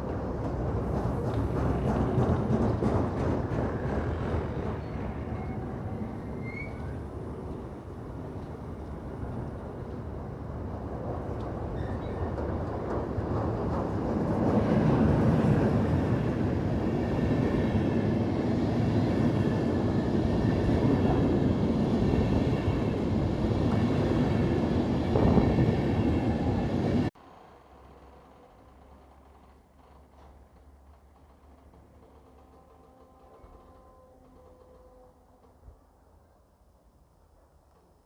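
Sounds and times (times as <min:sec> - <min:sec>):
freight train rolling past: 0:00.0 - 0:35.5.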